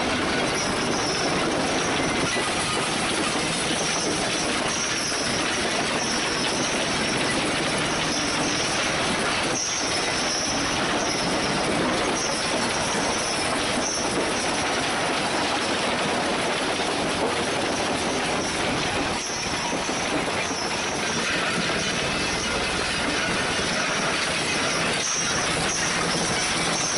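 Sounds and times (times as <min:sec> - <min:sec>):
metallic grinding din: 0:00.0 - 0:26.9.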